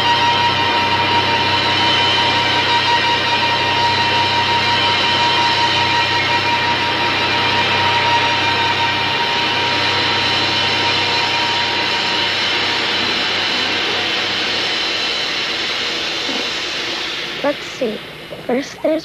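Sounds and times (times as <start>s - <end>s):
loud steady rushing noise: 0.0s - 19.0s.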